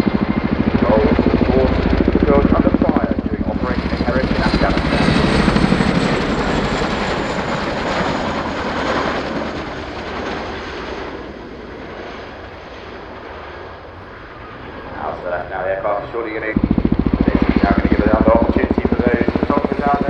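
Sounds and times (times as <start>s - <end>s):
helicopter rotor blade slap: 0.0s - 11.6s, 14.8s - 20.0s
high turbine whine: 0.0s - 20.0s.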